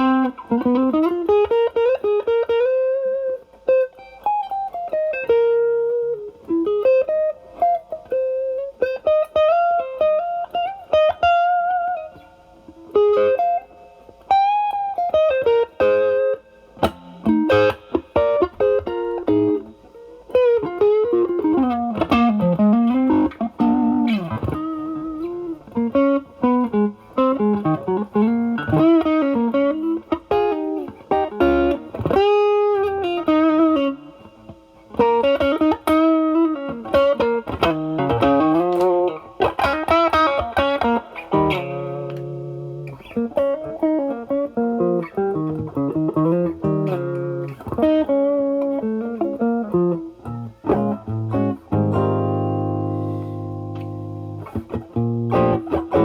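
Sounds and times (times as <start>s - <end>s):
overdriven electric guitar lead: 0.0s - 56.0s.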